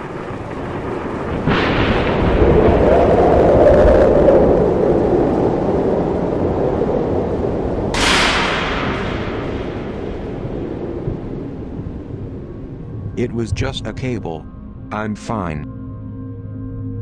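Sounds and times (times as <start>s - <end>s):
thunder crack and rumble: 0.0s - 14.9s.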